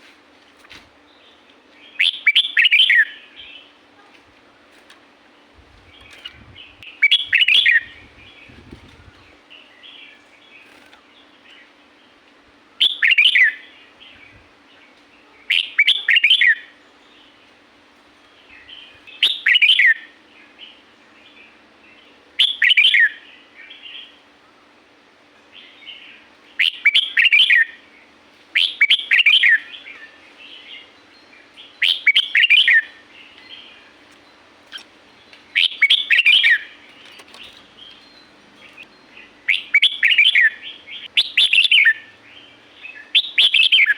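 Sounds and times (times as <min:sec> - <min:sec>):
soft bird chatter: 0:00.0 - 0:43.9.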